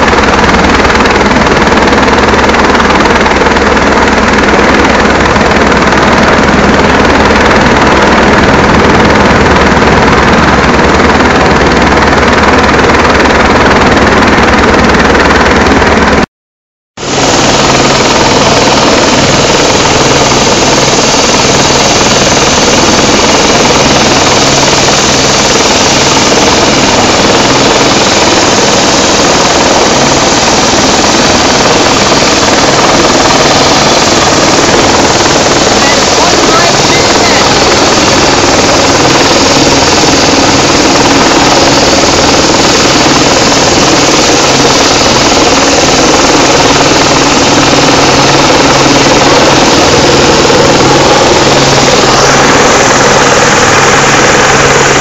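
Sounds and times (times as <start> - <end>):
helicopter rotor and engine noise: 0.0 - 16.3, 17.0 - 55.0.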